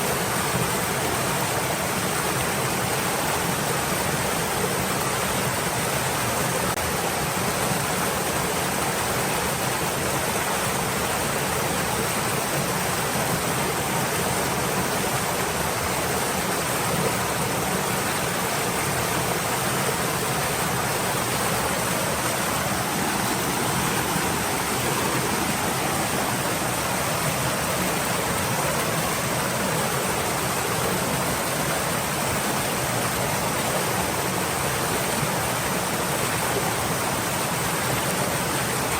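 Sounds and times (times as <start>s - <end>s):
stream of water flowing: 0.0s - 38.9s.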